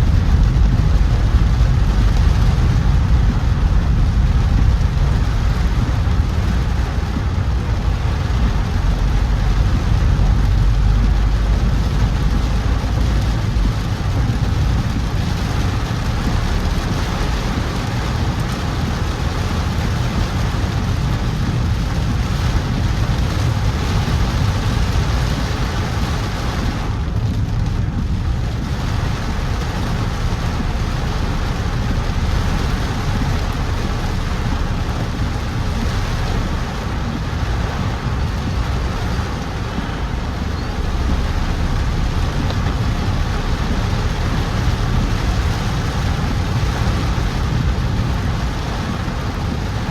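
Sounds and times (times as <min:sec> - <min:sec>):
car engine rumble: 0:00.0 - 0:49.9
rain and tyres on wet road: 0:00.0 - 0:49.9.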